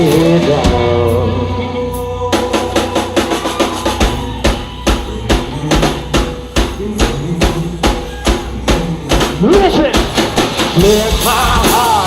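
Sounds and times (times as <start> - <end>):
drum kit beat: 0.0 - 1.4, 2.0 - 12.0
rock band playing live: 0.0 - 12.0.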